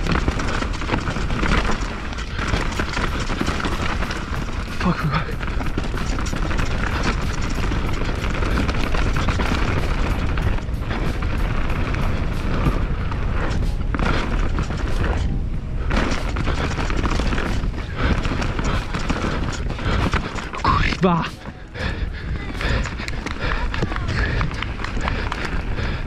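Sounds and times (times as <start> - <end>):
mountain bike clattering: 0.0 - 26.0
wind rumble on microphone: 0.0 - 26.0
music: 2.1 - 25.2.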